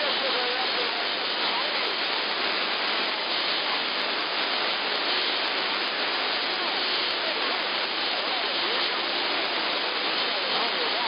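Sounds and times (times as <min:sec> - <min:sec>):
faint wavering radio tones: 0:00.0 - 0:11.0
radio static hiss: 0:00.0 - 0:11.0.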